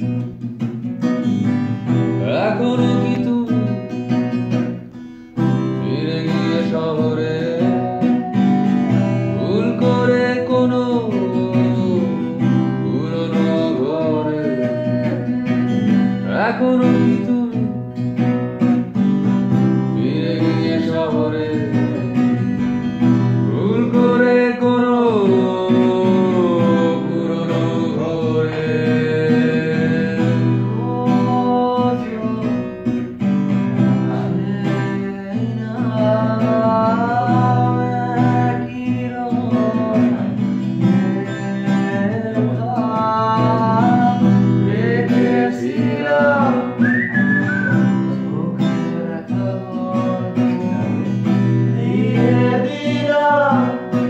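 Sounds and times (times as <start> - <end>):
acoustic guitar strumming: 0.0 - 54.0
man singing: 1.2 - 54.0.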